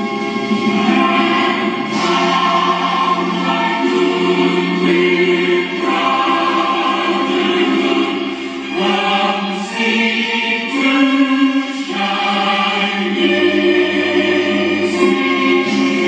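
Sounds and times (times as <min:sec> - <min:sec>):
choir singing held chords: 0:00.0 - 0:16.0
musical accompaniment: 0:00.0 - 0:16.0.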